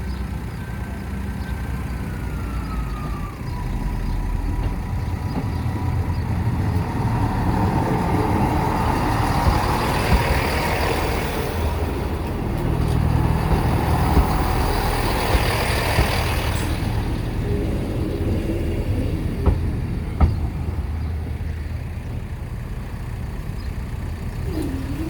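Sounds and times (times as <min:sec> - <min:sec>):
heavy vehicle engine rumbling: 0:00.0 - 0:25.0.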